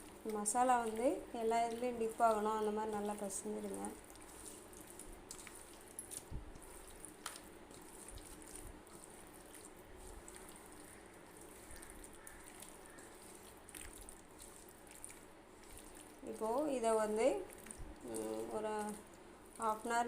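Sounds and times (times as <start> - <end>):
wet squelching of kneaded meat: 0.0 - 20.0.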